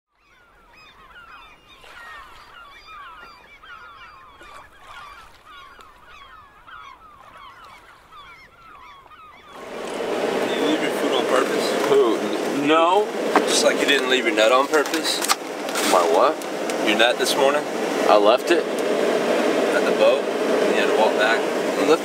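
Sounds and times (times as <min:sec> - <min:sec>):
flock of birds calling: 0:00.1 - 0:22.0.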